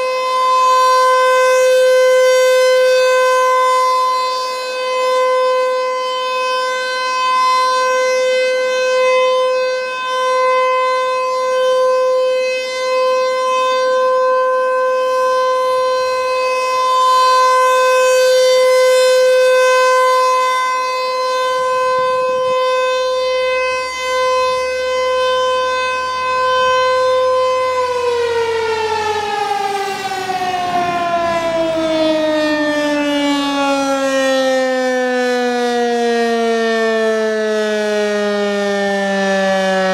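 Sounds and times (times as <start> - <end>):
rotating siren wailing: 0.0 - 39.9.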